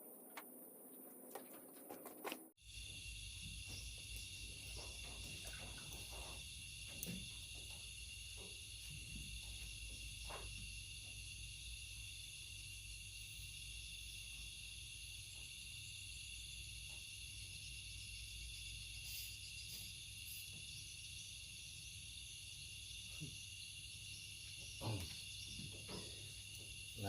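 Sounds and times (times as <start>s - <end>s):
insects buzzing: 0.1s - 27.0s.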